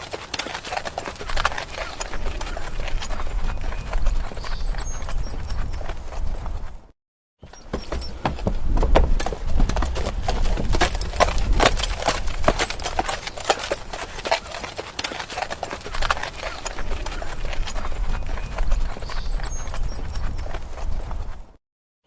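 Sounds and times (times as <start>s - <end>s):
horse hooves clip-clopping: 0.0s - 21.6s.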